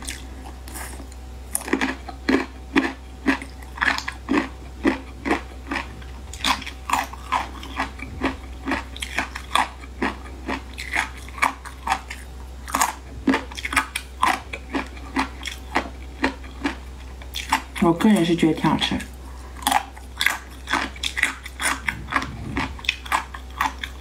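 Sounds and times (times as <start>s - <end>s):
crunchy chewing: 0.0s - 18.4s, 19.0s - 24.0s
faint low hum: 0.0s - 24.0s.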